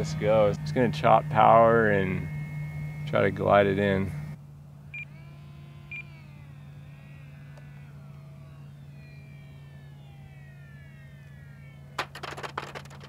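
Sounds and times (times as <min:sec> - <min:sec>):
model plane motor whine: 0:00.0 - 0:13.0
steady low hum: 0:00.0 - 0:13.0.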